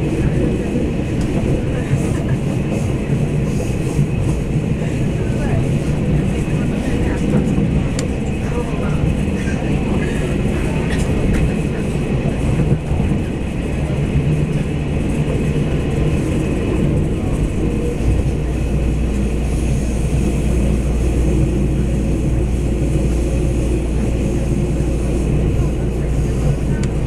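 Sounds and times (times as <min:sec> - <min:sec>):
railcar diesel engine rumble: 0:00.0 - 0:27.0.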